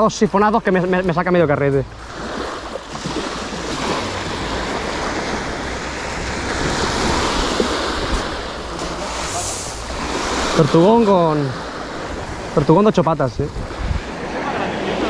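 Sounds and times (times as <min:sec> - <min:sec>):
sea waves washing on shore: 0:00.0 - 0:15.0
wind buffeting microphone: 0:01.8 - 0:15.0.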